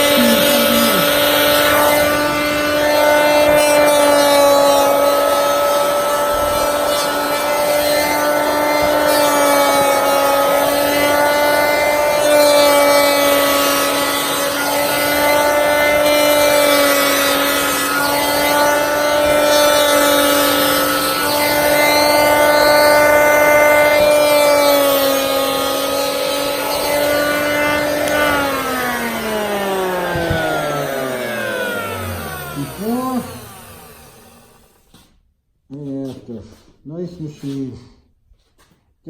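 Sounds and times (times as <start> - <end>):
electric hand planer cutting wood: 0.0 - 35.2.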